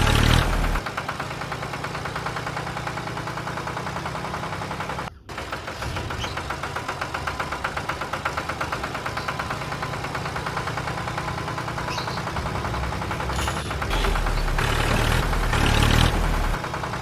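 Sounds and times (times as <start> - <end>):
small engine knocking steadily: 0.0 - 17.0.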